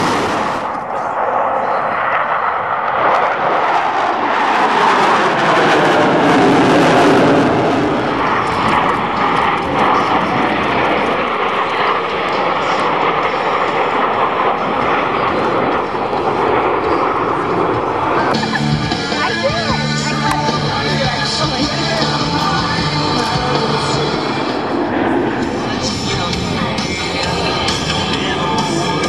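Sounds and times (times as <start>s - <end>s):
jet planes roaring past: 0.0s - 29.0s.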